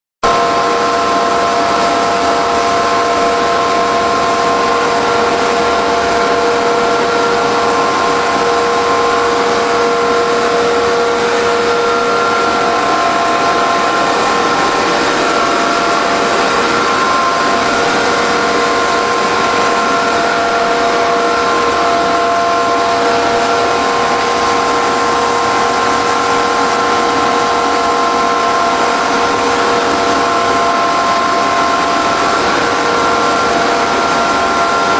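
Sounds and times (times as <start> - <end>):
machine whine: 0.2 - 34.9
industrial motors and gear drives: 0.3 - 34.9.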